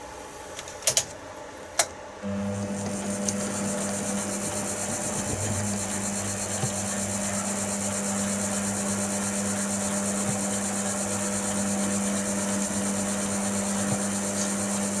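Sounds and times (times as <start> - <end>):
lathe motor humming: 2.2 - 15.0.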